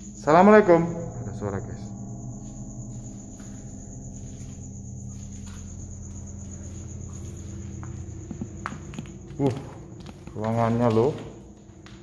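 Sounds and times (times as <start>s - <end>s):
crickets trilling: 0.0s - 12.0s
low steady hum: 0.0s - 12.0s.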